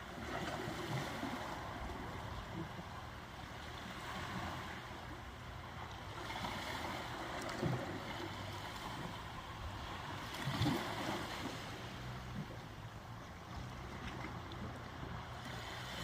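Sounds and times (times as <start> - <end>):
ocean waves washing: 0.0 - 16.0.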